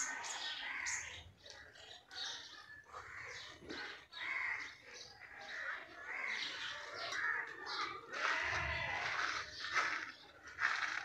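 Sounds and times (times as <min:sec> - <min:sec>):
birds calling: 0:00.0 - 0:11.0.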